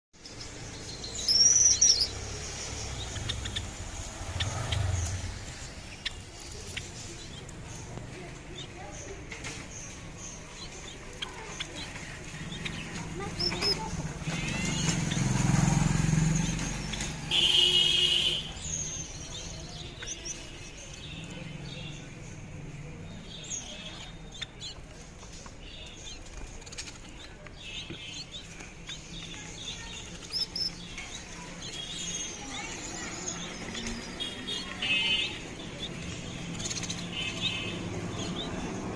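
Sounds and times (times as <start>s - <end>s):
small birds chirping: 0.1s - 38.9s.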